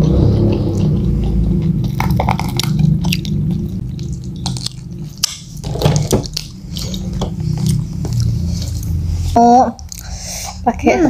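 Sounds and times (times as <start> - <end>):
wet biting and chewing: 0.0 - 9.0.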